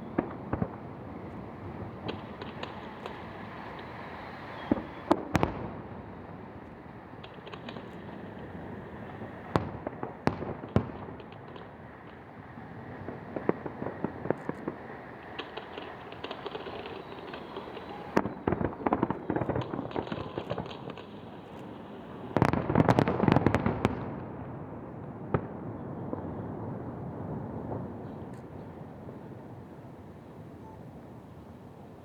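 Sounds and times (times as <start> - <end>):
fireworks bangs and crackling bursts: 0.0 - 29.7.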